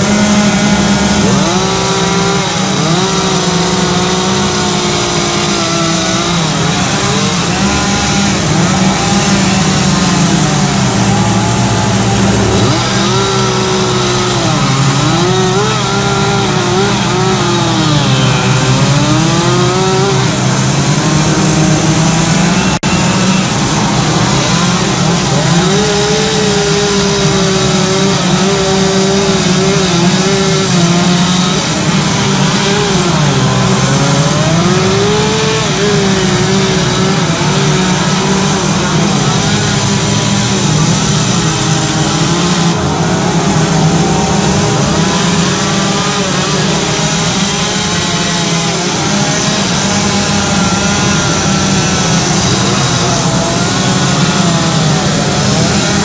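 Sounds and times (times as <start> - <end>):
chainsaws cutting wood: 0.0 - 56.0.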